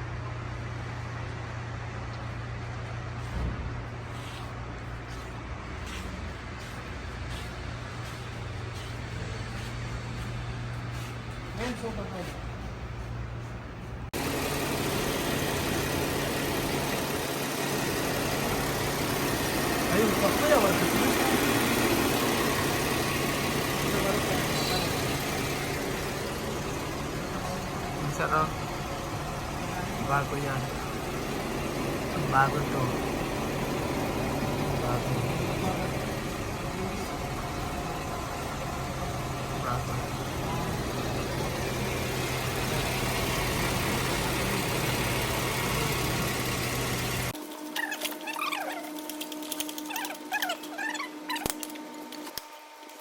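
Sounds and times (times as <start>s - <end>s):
car engine idling: 3.9s - 47.4s.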